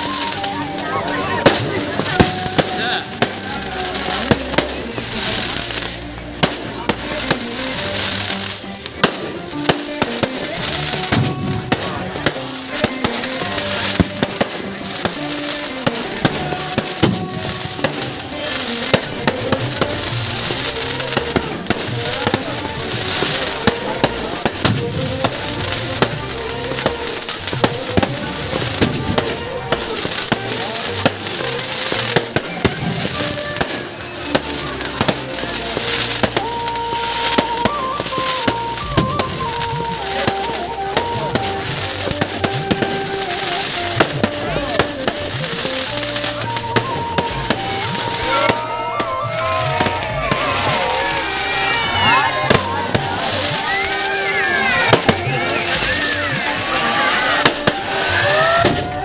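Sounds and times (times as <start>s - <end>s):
fireworks bangs and crackles: 0.0s - 59.0s
music playing: 0.0s - 59.0s.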